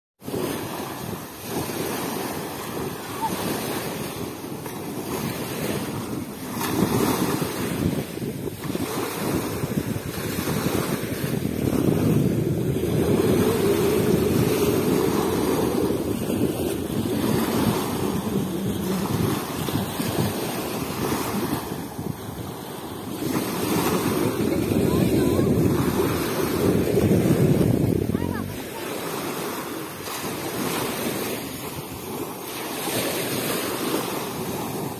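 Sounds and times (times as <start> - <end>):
waves washing onto beach: 0.2 - 34.9
wind buffeting microphone: 0.2 - 34.9.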